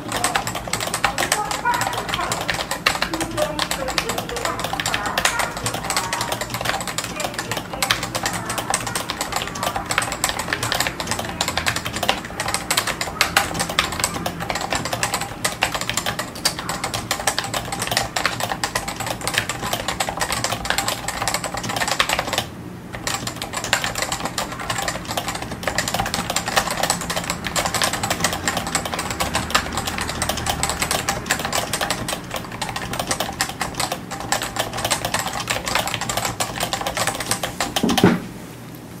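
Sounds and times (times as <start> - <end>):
fast keyboard typing: 0.0 - 38.2.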